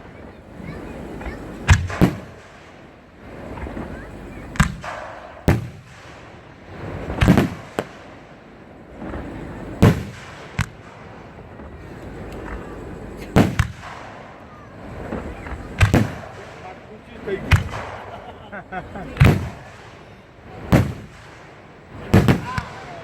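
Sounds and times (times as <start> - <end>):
fireworks booming: 0.0 - 23.0.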